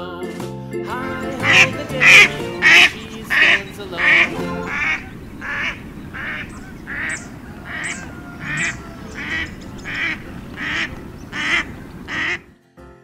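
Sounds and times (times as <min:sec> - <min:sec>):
duck quacking: 0:00.9 - 0:12.5.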